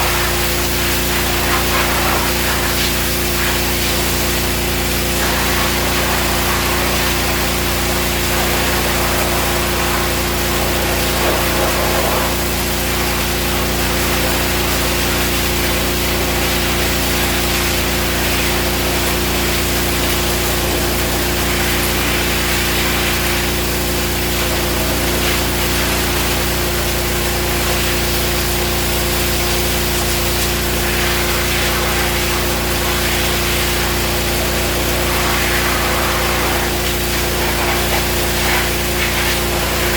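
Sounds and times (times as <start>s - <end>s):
pressure washer engine running: 0.0s - 39.9s
water jet hissing: 0.0s - 39.9s.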